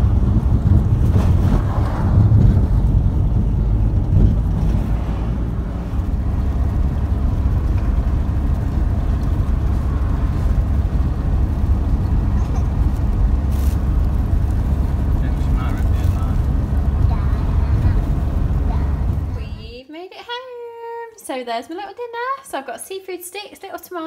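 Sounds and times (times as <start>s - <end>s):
vehicle engine and road rumble: 0.0s - 19.8s.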